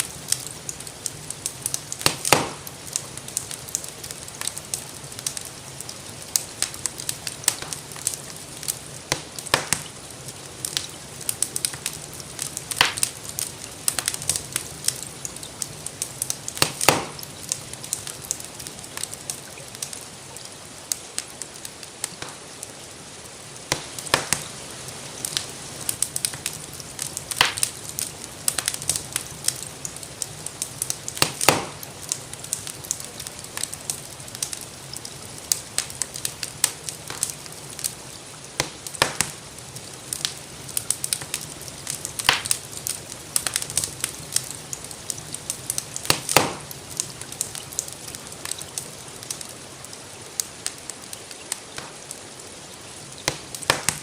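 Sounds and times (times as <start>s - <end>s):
loud fire pops: 0.0s - 21.4s, 22.0s - 22.5s, 23.6s - 49.6s, 51.7s - 52.2s, 53.1s - 54.0s
soft hiss of rain: 0.0s - 54.0s
wood fire crackling: 0.0s - 54.0s.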